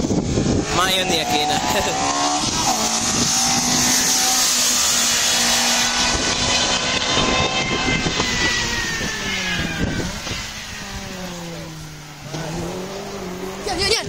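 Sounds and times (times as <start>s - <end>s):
loud rushing noise: 0.0s - 13.9s
car engine running hard: 0.0s - 14.0s.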